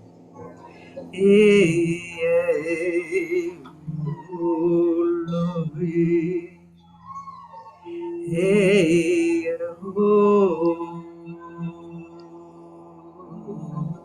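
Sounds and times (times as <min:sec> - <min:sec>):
low drone: 0:00.0 - 0:14.0.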